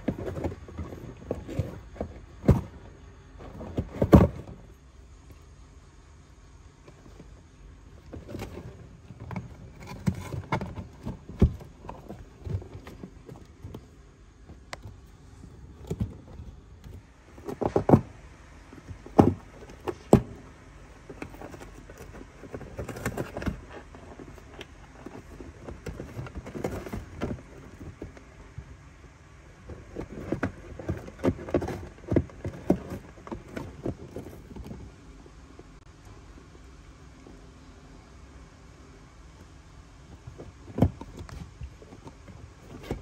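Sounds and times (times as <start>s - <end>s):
cat scratching cardboard box: 0.0s - 4.9s, 7.0s - 35.6s, 39.9s - 43.0s.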